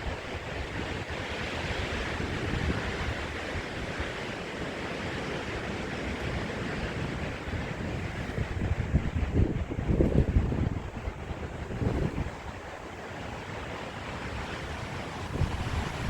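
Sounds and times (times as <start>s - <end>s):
strong storm wind blowing: 0.0s - 16.0s.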